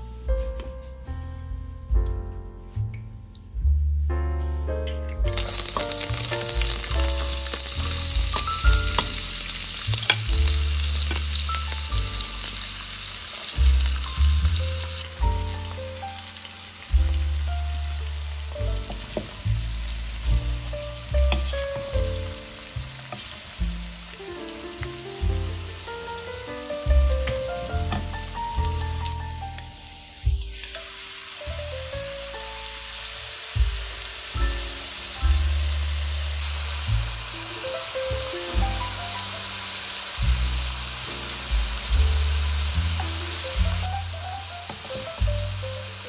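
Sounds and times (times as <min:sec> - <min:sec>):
quiet frying: 0:05.3 - 0:46.0
vegetables sizzling in hot oil: 0:05.3 - 0:46.0.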